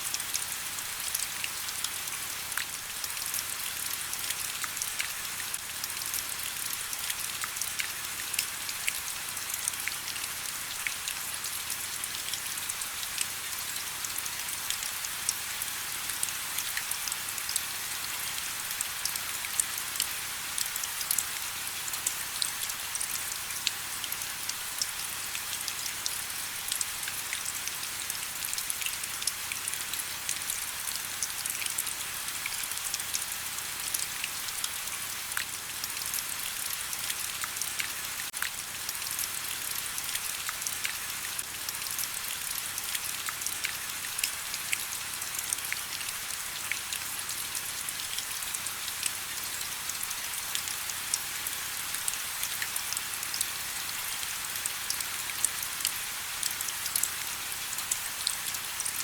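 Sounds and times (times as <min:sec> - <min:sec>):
rain pattering on surfaces: 0:00.1 - 0:59.0.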